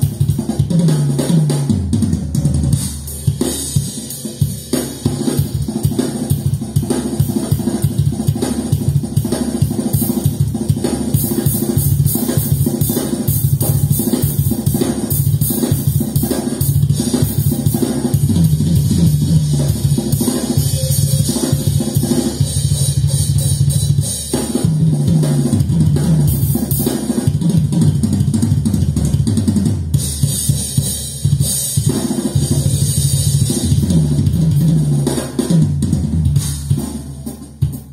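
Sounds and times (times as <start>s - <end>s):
drum kit through speakers: 0.0s - 37.9s.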